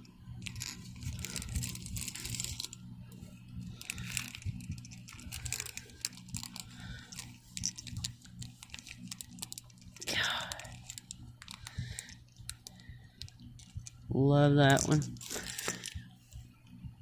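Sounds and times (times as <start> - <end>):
steady low hum: 0.0 - 17.0
plastic packaging crinkling: 0.4 - 2.8, 3.7 - 14.0, 14.7 - 16.1.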